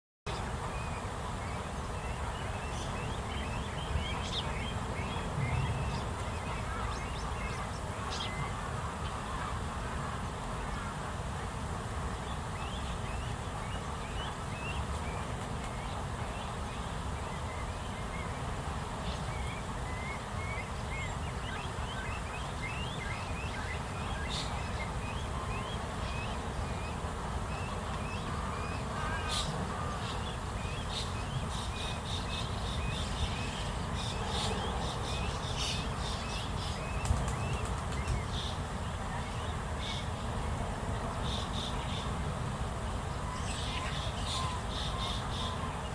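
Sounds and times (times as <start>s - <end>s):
steady background hum: 0.3s - 45.9s.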